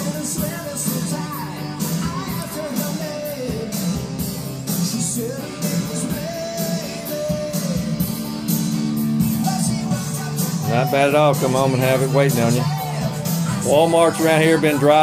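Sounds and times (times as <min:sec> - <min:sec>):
person singing: 0:00.0 - 0:08.5, 0:09.1 - 0:15.0
rock music: 0:00.0 - 0:15.0.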